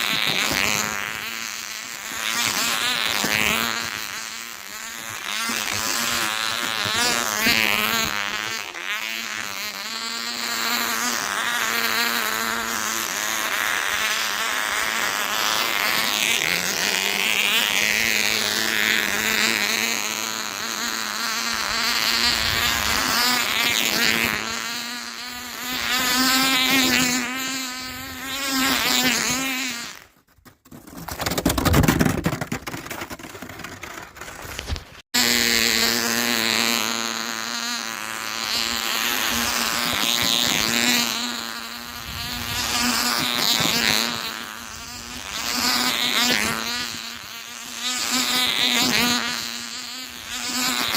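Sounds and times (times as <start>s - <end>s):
model engine buzzing whine: 0.0s - 30.2s, 33.0s - 50.9s.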